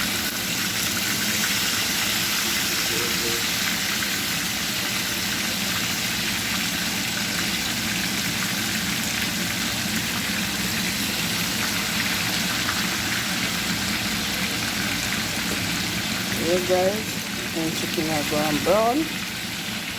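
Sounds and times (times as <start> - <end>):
chicken sizzling in hot oil: 0.0 - 19.9.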